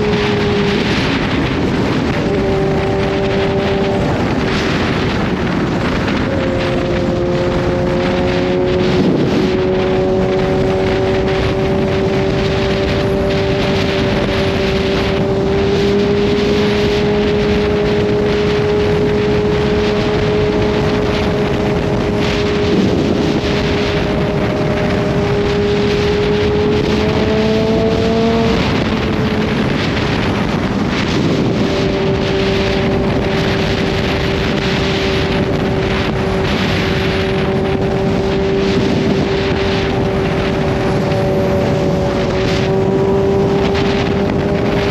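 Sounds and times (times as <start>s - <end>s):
motorcycle engine cruising: 0.0s - 44.9s
wind noise on microphone: 0.0s - 44.9s.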